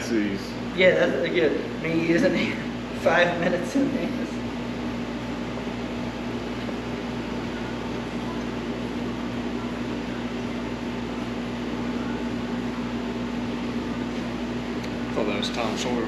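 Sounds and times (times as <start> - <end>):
machine hum with whooshing: 0.0 - 16.0.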